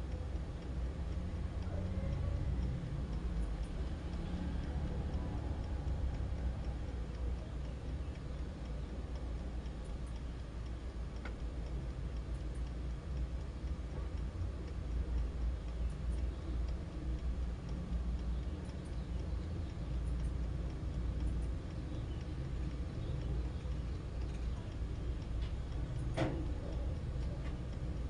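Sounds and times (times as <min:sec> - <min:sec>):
alarm clock ticking: 0:00.0 - 0:28.0.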